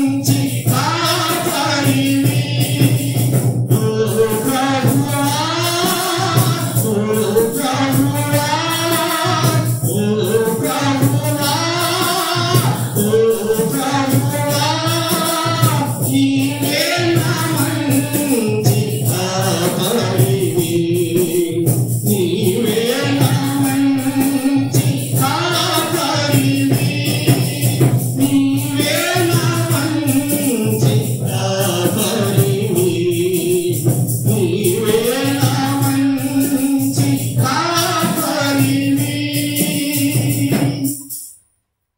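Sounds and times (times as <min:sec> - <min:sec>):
voices singing a hymn: 0:00.0 - 0:41.2
tambourine beat: 0:00.0 - 0:41.5.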